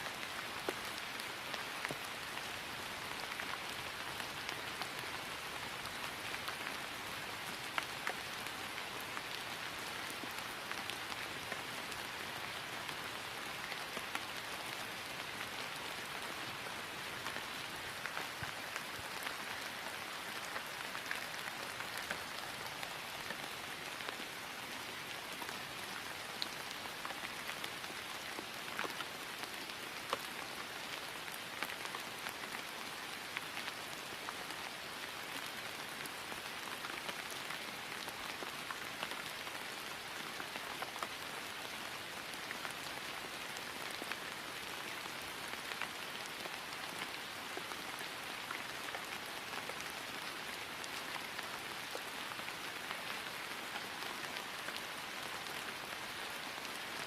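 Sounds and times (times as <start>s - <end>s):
rain falling on grass: 0.0s - 57.0s.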